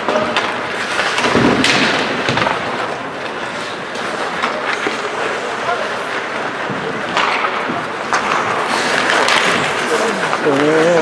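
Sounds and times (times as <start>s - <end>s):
hockey sticks clattering: 0.0s - 11.0s
skates scraping on ice: 0.0s - 11.0s.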